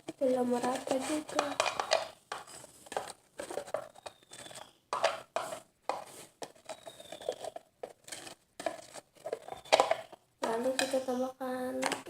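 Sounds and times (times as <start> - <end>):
utensil stirring thick mixture: 0.0 - 11.2.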